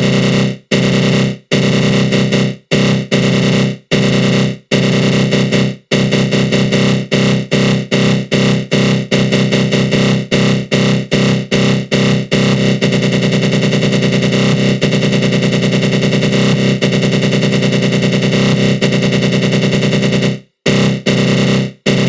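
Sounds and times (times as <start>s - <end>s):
pulsing synth stabs: 0.0s - 22.0s.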